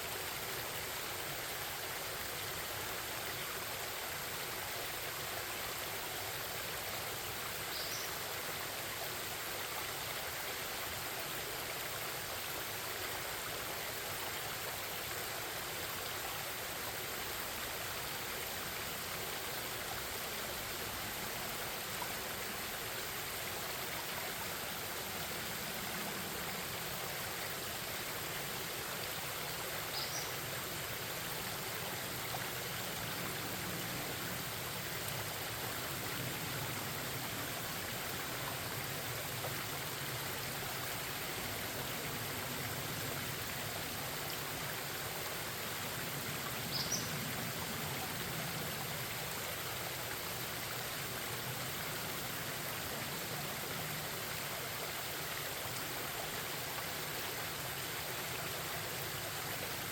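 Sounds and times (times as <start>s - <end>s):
forest stream babbling: 0.0s - 59.9s.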